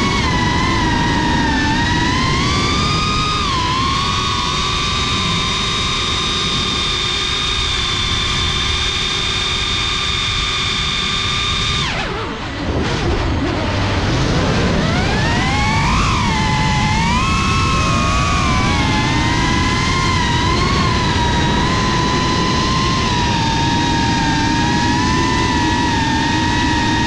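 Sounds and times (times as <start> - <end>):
drone motors whining: 0.0 - 27.0
wind noise: 0.0 - 27.0.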